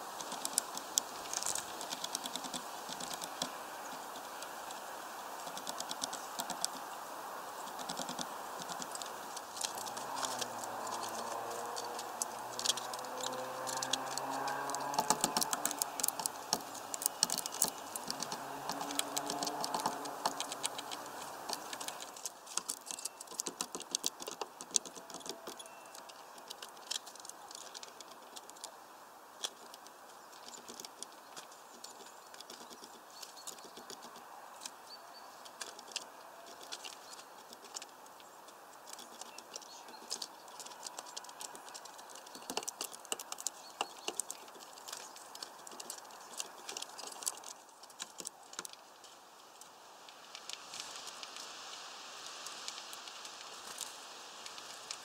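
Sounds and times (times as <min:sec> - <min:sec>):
bird pecking at seed: 0:00.0 - 0:28.8, 0:29.4 - 0:55.0.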